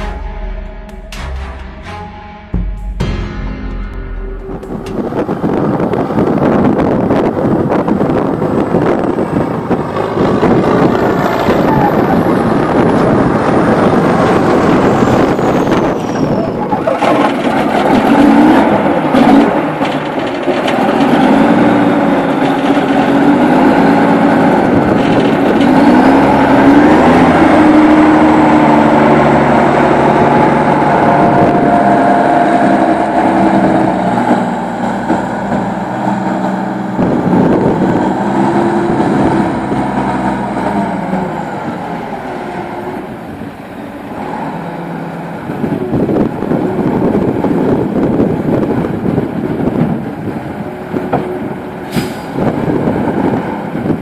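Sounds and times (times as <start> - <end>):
tractor engine running: 0.0 - 54.0
wheel loader engine revving: 4.7 - 54.0.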